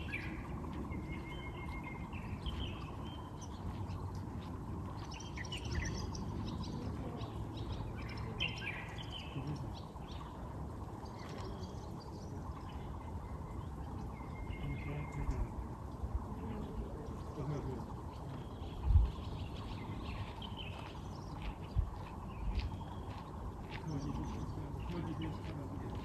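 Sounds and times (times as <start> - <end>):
songbirds singing: 0.0 - 26.0
steady low rumble: 0.0 - 26.0.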